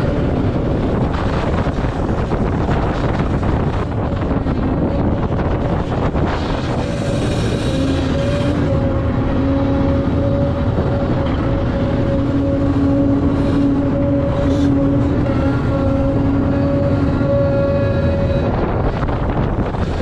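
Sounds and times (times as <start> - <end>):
heavy diesel machinery engines: 0.0 - 20.0
steady machinery whine: 0.0 - 20.0.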